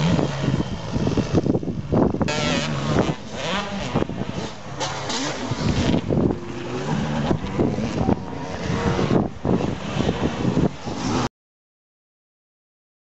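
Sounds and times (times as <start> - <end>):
motocross engines revving: 0.0 - 11.3.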